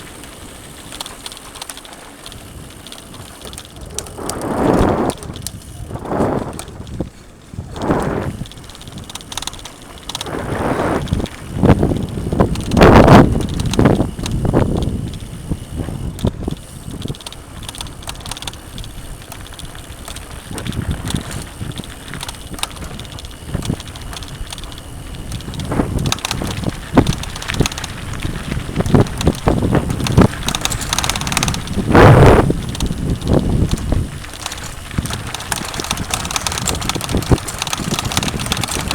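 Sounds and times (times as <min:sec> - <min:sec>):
bike rattling over bumps: 0:00.0 - 0:38.9
tyres on dirt trail: 0:00.0 - 0:38.9
wind noise on microphone: 0:01.8 - 0:38.9.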